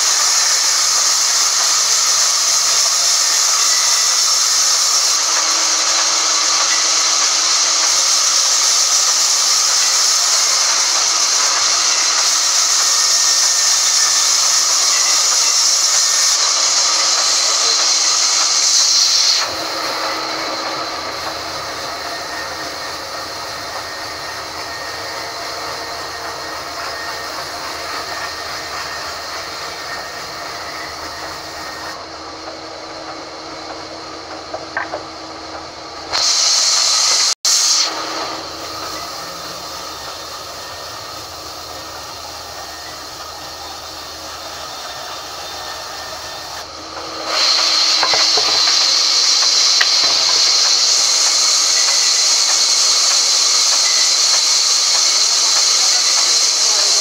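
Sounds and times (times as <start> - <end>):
saw blade hissing through log: 0.0 - 32.2, 36.0 - 57.0
band saw running: 0.0 - 57.0.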